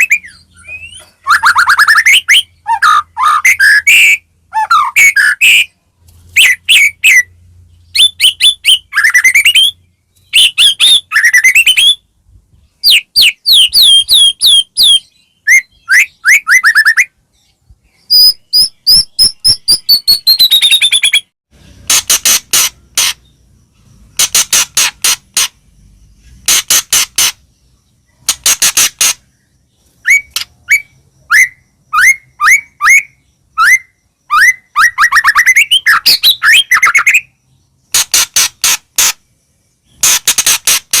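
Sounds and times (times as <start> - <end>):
songbird singing varied song: 0.0 - 41.0.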